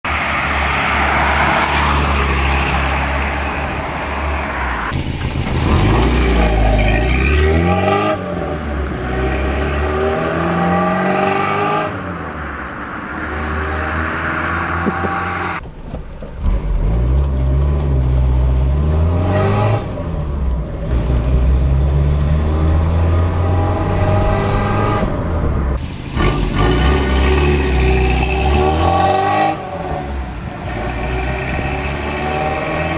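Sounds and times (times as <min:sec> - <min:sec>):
car engine revving: 0:00.6 - 0:15.6, 0:16.4 - 0:32.9.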